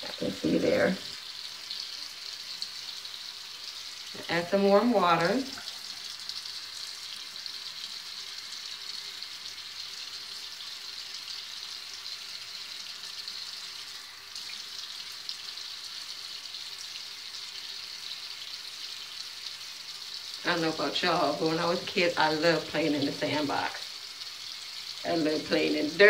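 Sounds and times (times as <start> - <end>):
water running from a tap: 0.0 - 26.0.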